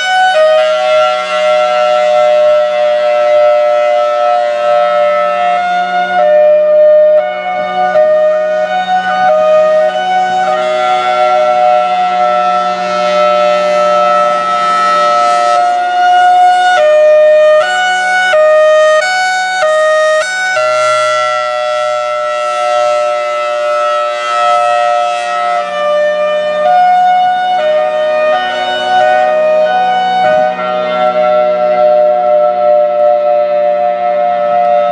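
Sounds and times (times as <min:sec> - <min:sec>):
warning siren wailing: 0:00.0 - 0:34.9.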